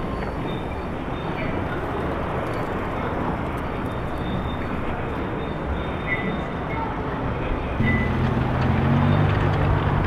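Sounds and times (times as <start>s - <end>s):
outdoor city background noise: 0.0s - 10.0s.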